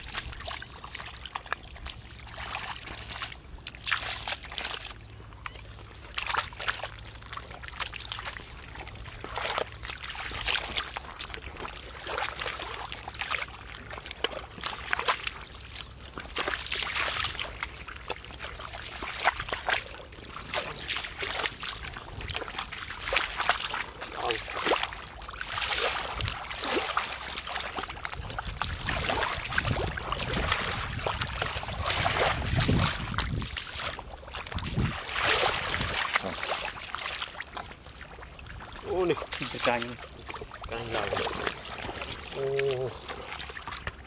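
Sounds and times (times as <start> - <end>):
feet wading in muddy water: 0.0 - 44.0
hands digging in wet mud: 0.0 - 44.0.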